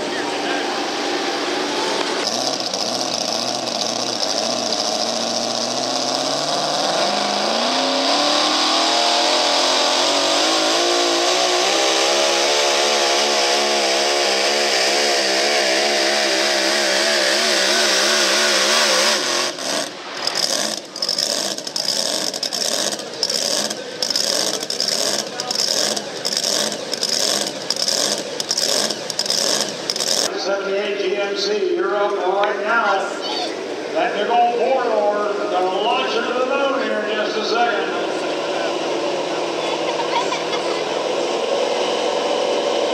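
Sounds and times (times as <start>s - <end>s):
pickup engine at full throttle: 0.0s - 30.4s, 33.6s - 42.9s.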